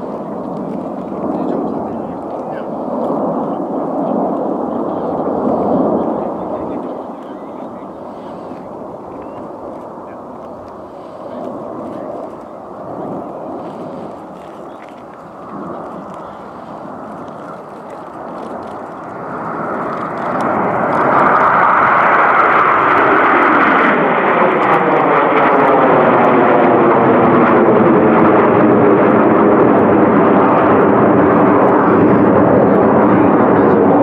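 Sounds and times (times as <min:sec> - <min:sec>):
jet engines flying past: 0:00.0 - 0:34.0.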